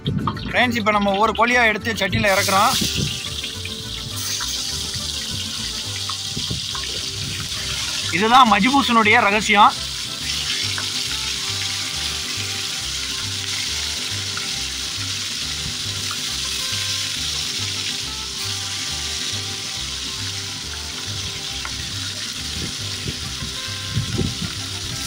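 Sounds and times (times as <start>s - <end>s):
chicken sizzling in hot oil: 2.3s - 25.0s.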